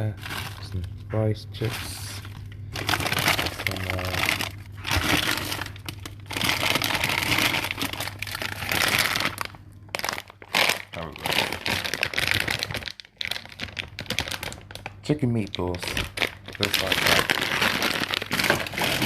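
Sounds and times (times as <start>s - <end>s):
plastic food packaging crinkling: 0.0s - 19.0s.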